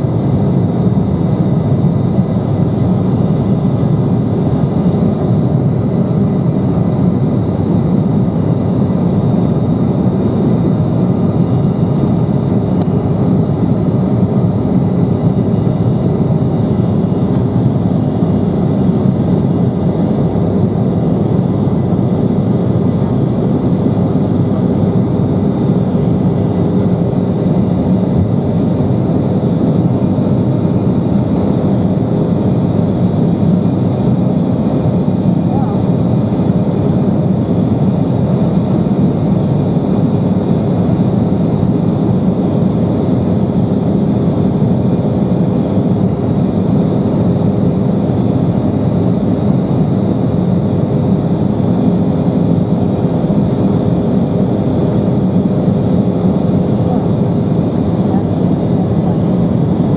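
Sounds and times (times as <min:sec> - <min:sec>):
jet engine cabin hum: 0:00.0 - 0:59.9.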